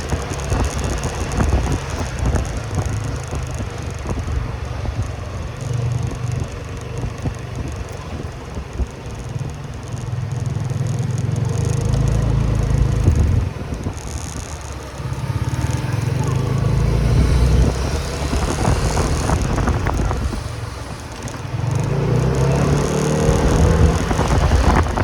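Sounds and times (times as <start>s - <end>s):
motorcycle engine rumble: 0.0s - 25.0s
road and wind noise: 0.0s - 25.0s.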